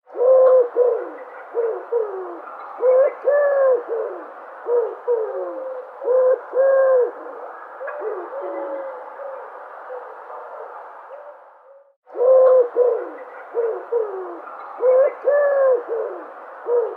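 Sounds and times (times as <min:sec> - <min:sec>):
dove cooing: 0:00.1 - 0:16.9
faint background noise: 0:00.1 - 0:16.9.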